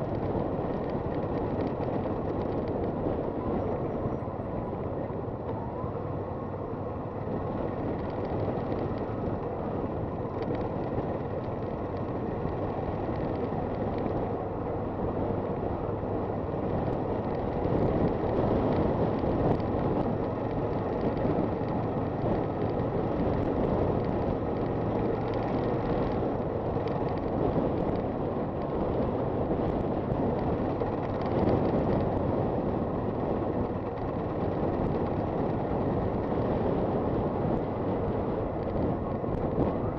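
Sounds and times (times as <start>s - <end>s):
wind rush: 7.2s - 39.9s.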